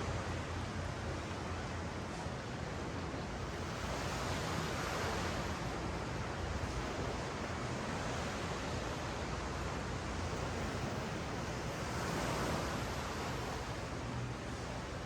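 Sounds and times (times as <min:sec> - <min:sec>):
surf washing on sand beach: 0:02.9 - 0:15.0.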